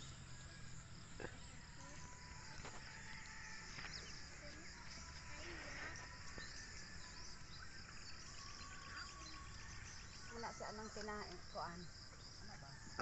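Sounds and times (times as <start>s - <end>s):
faint bird chirps: 0.0s - 13.0s
insects trilling: 0.0s - 13.0s.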